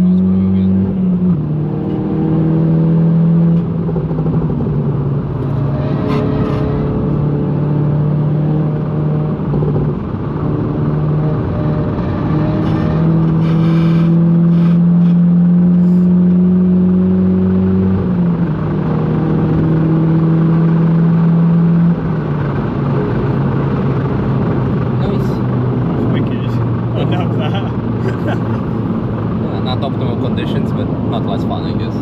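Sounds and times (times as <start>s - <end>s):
car engine from inside cabin: 0.0s - 32.0s
tyre and road noise: 0.0s - 32.0s.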